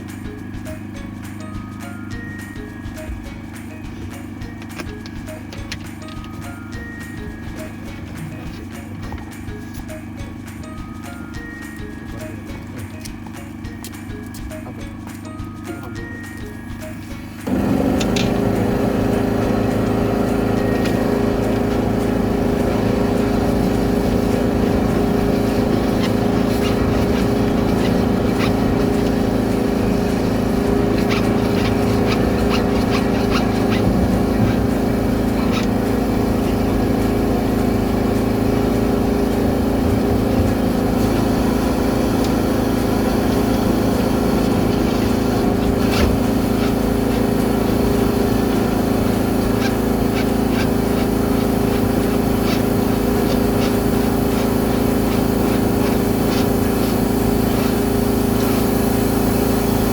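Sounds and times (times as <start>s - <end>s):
drain-jetting machine humming: 0.0s - 59.9s.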